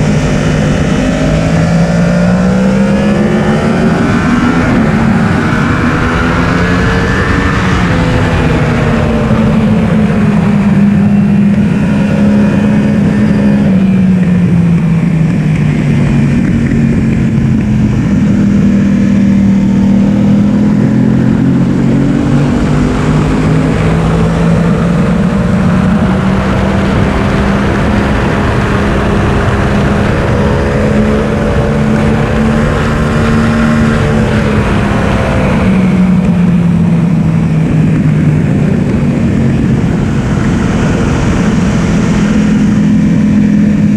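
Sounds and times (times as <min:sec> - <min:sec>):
motorcycle engine running: 0:00.0 - 0:43.9
wind rush: 0:00.0 - 0:43.9.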